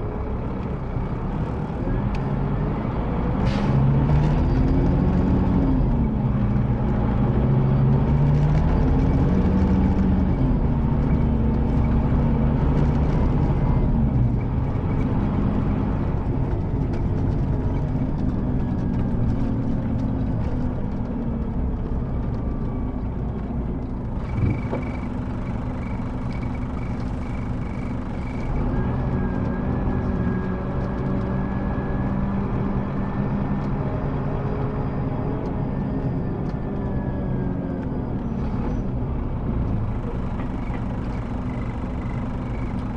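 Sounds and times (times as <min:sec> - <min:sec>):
coach diesel engine running: 0:04.7 - 0:42.9.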